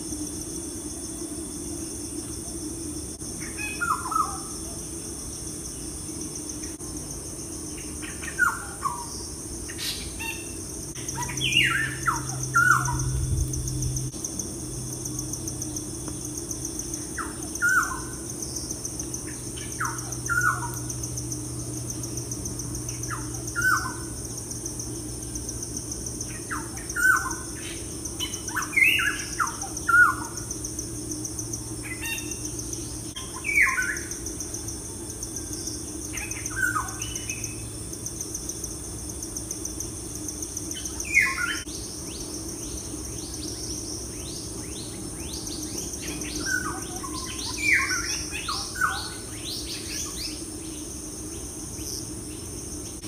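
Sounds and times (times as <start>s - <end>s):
insect-like drone: 0.0s - 53.0s.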